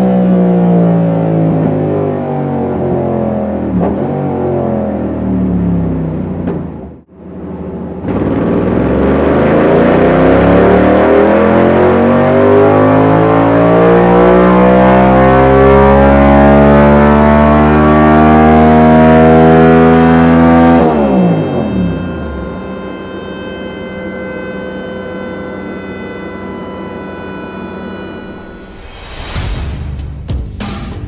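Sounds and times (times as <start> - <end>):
motorcycle engine revving: 0.0 - 7.1, 8.0 - 29.4.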